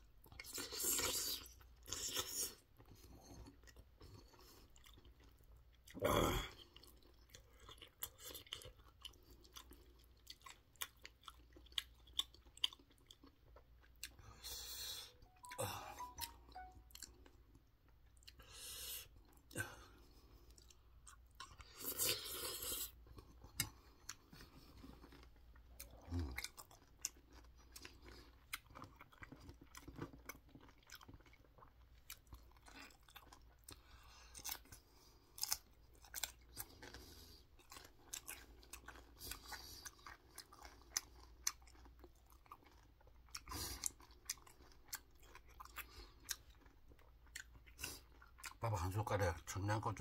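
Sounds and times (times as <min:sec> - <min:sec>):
chewing with crisp crunches: 0:00.0 - 0:50.0.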